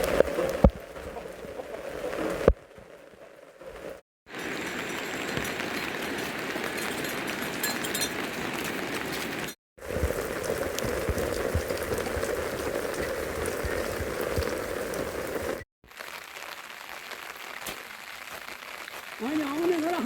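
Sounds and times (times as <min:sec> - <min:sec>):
rain falling on a surface: 0:00.0 - 0:20.0.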